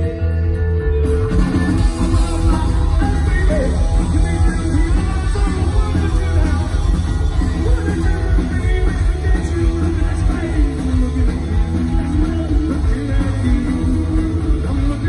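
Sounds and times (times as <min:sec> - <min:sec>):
bass: 0:00.0 - 0:15.0
distorted electric guitar: 0:00.0 - 0:15.0
drums: 0:00.0 - 0:15.0
person singing: 0:00.0 - 0:15.0.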